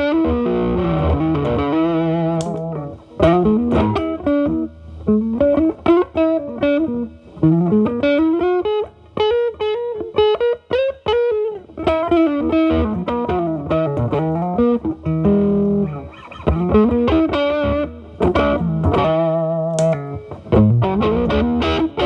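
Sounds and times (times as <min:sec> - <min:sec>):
overdriven electric guitar lead: 0:00.0 - 0:22.0.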